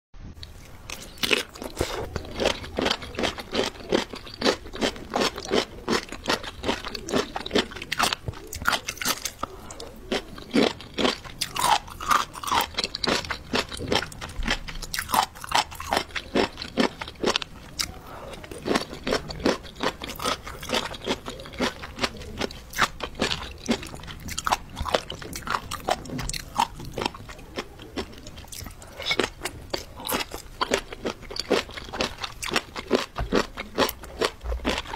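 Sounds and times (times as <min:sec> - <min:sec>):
person chewing crunchy food: 0:00.4 - 0:34.9.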